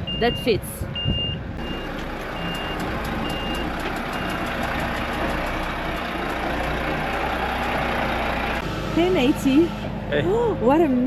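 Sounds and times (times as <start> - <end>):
truck back-up alarm beeping: 0.0 - 10.0
truck engine running: 1.4 - 11.0.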